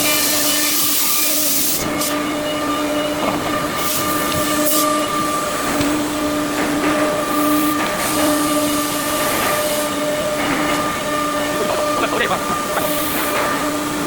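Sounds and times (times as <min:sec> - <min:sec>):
machine whine: 0:00.0 - 0:14.0.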